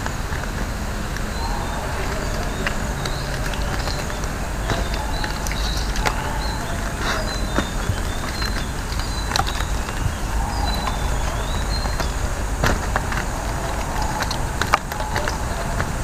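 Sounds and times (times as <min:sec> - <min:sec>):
leaf strips clicking and snapping: 0:00.0 - 0:16.0
leaf strips rustling: 0:00.0 - 0:16.0
steady low rumble: 0:00.0 - 0:16.0.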